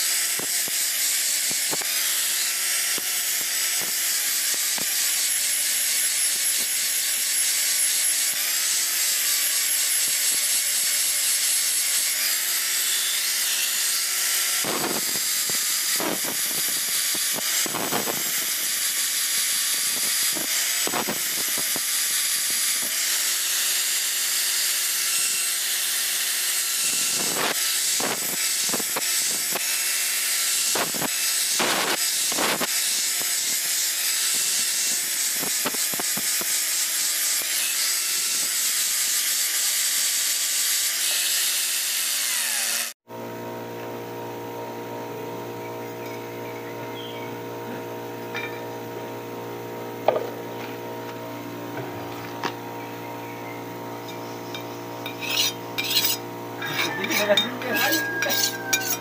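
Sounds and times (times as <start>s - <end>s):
angle grinder grinding steel: 0.0s - 43.0s, 45.0s - 59.0s
grinder scraping strokes: 0.0s - 43.0s, 47.6s - 49.2s, 49.8s - 52.7s, 53.6s - 59.0s.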